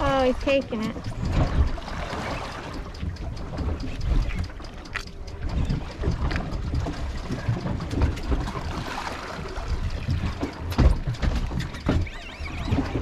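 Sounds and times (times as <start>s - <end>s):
water sloshing against boat hull: 0.0s - 13.0s
wind buffeting microphone: 0.0s - 13.0s.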